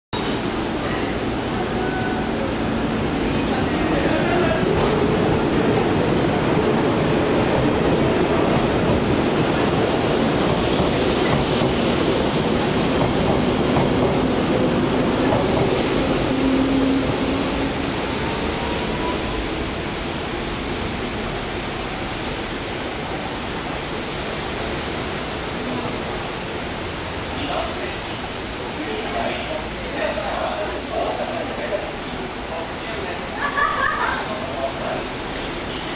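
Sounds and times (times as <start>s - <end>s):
train wheels rumbling on rail: 0.2s - 33.1s.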